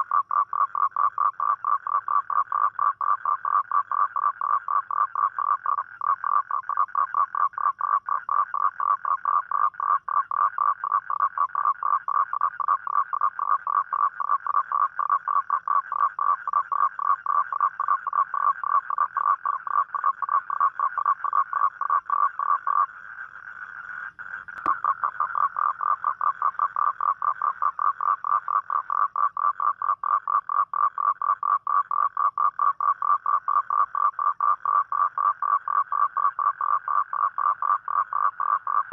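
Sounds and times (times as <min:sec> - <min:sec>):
toad trilling: 0:00.0 - 0:38.9.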